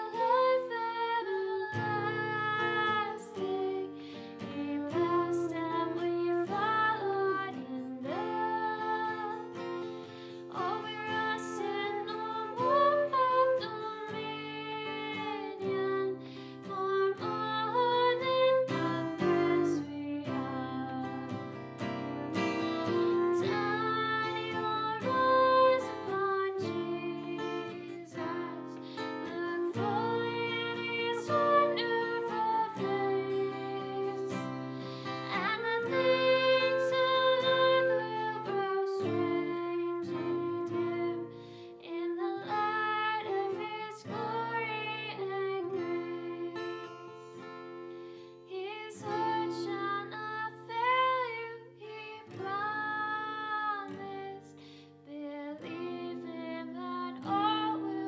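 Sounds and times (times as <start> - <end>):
person singing: 0.0 - 47.5, 48.5 - 58.0
acoustic guitar strumming: 0.0 - 55.0.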